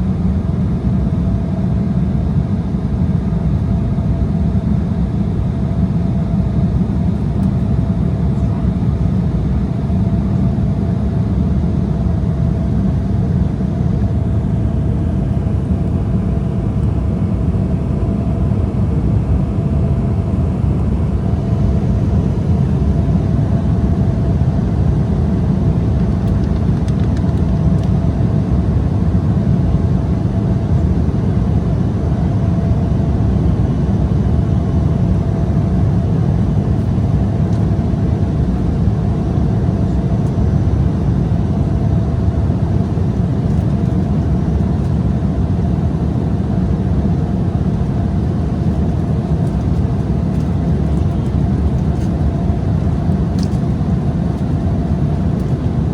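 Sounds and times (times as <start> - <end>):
jet cabin airflow rush: 0.0 - 55.9.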